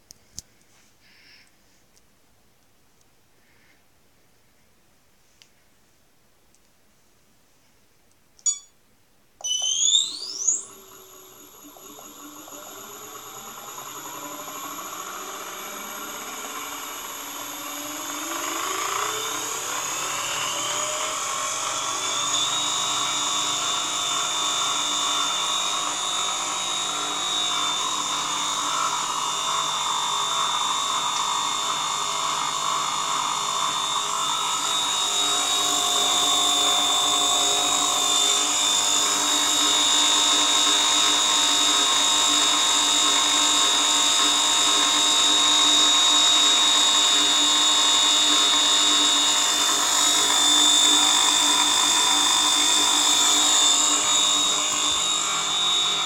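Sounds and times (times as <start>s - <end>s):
electric motor whining: 9.6s - 56.0s.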